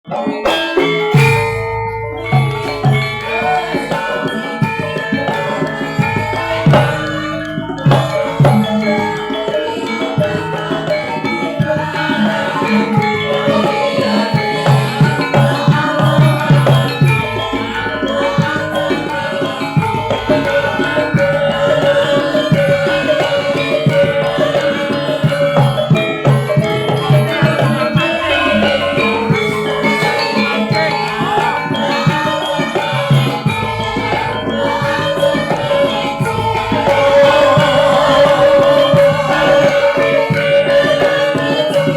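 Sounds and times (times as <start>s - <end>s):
fast hand drums: 0.1s - 41.9s
metallophones and gongs ringing: 0.1s - 41.9s.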